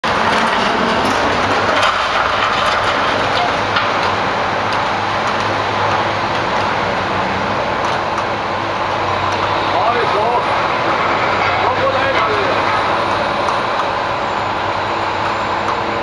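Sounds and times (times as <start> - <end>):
diesel machinery droning: 0.0 - 16.0.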